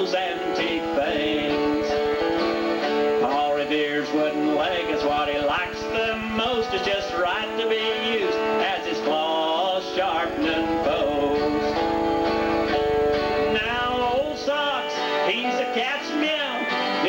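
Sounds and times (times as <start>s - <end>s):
acoustic guitars strumming: 0.0s - 17.0s
gliding guitar melody: 0.0s - 17.0s.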